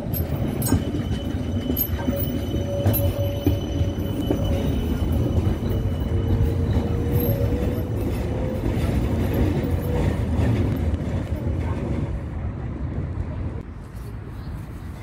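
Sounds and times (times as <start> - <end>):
tram rumbling past: 0.0 - 15.0.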